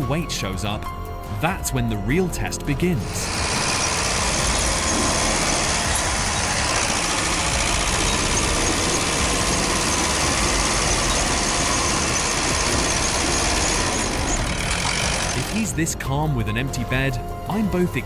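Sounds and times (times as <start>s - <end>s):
truck engine running: 0.1s - 18.0s.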